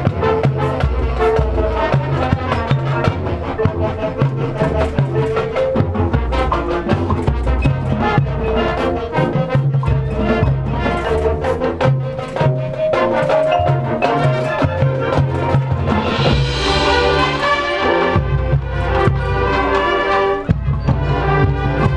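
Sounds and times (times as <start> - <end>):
drumline percussion: 0.0 - 21.9
marching band playing: 0.0 - 21.9.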